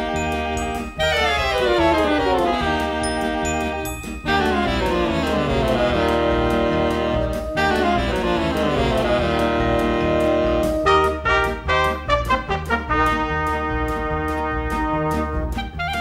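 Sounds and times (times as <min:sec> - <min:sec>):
jazz music on horns: 0:00.0 - 0:16.0.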